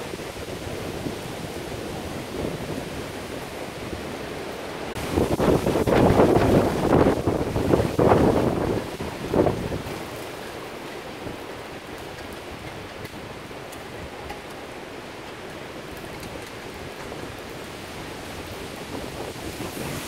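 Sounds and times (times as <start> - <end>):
heavy rain hissing: 0.0 - 20.0
rain drops ticking: 0.0 - 20.0
wind buffeting microphone: 0.0 - 20.0.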